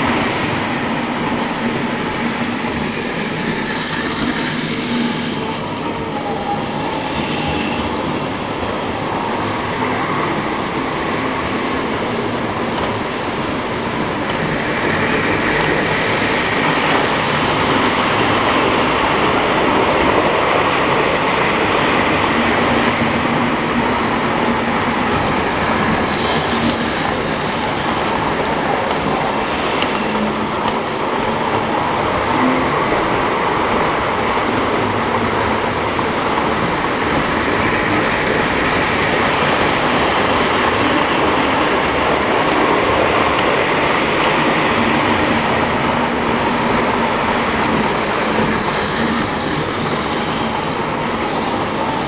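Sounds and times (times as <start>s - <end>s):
model trains running on track: 0.0s - 52.0s.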